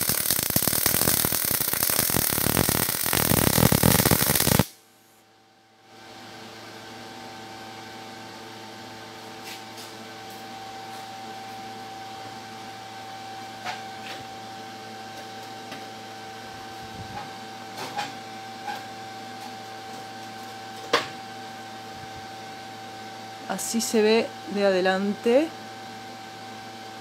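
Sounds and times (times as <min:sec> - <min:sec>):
machine humming with whine: 0:00.0 - 0:27.0.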